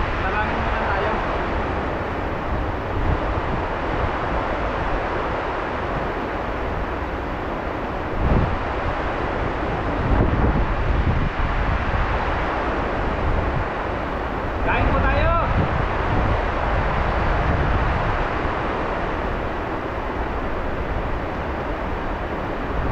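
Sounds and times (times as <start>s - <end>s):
steady rushing noise: 0.0s - 22.9s
wind buffeting microphone: 0.0s - 22.9s.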